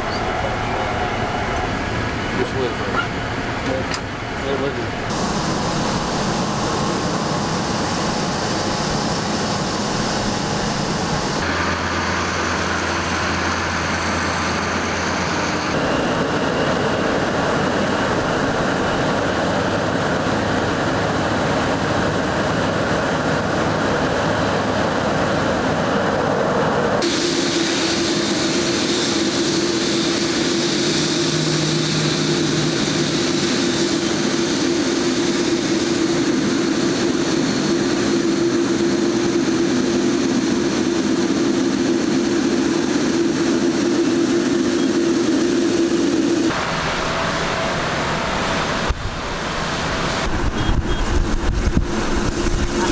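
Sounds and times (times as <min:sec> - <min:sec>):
jet engines running: 0:00.0 - 0:52.9.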